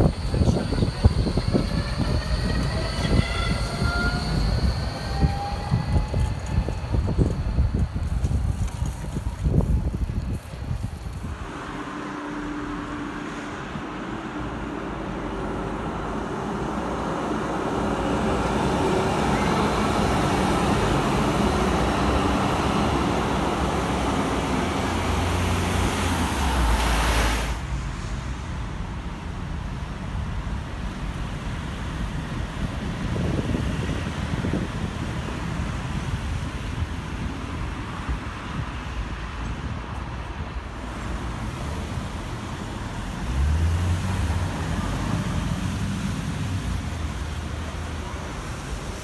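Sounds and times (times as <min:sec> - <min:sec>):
street traffic: 0:00.0 - 0:49.0
tram passing on street track: 0:00.0 - 0:49.0.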